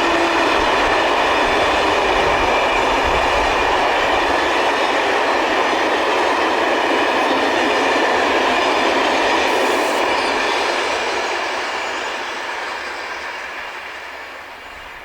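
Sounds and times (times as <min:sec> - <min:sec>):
train rolling past on rails: 0:00.0 - 0:15.0.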